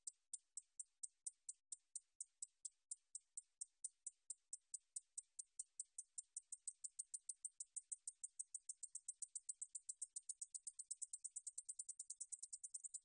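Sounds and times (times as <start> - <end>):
katydid high-pitched ticks: 0.0 - 13.0.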